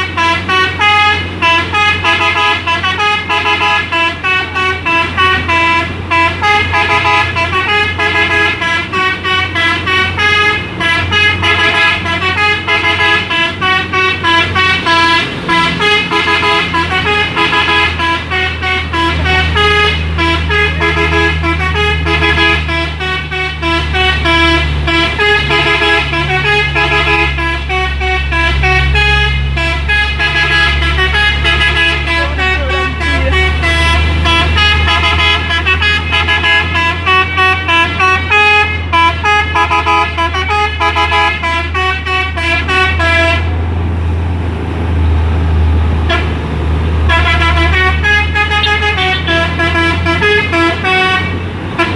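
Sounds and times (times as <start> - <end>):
multi-tone truck horn melody: 0.0 - 43.8, 45.0 - 51.9
diesel engine drone: 0.0 - 51.9.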